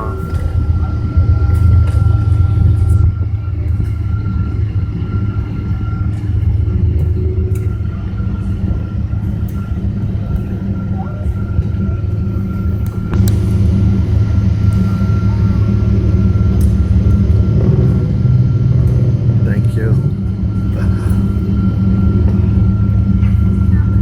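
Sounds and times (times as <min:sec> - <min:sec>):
aircraft engine rumble: 0:00.0 - 0:24.0
faint steady whine: 0:00.0 - 0:24.0.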